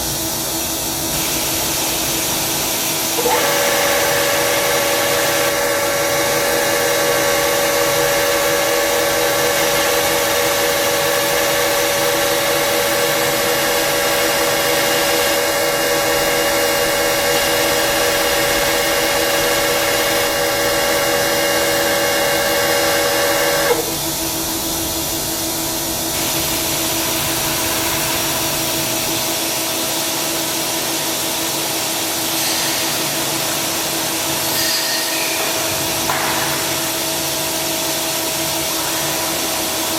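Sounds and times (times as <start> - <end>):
steady hum: 0.0 - 32.2
lathe mechanical whine: 0.1 - 36.0.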